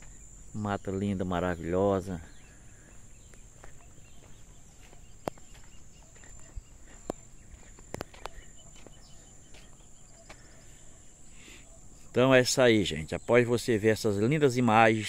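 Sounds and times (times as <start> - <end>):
faint bird calls: 0.0 - 13.3
insect drone: 0.0 - 15.0.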